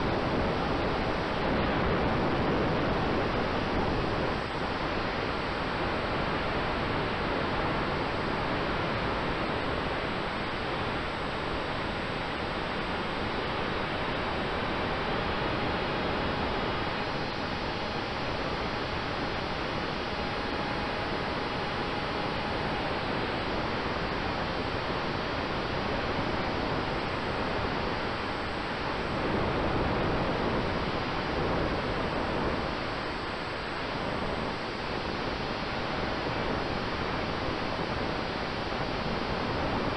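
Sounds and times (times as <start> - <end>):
faint steady tone: 0.0 - 39.9.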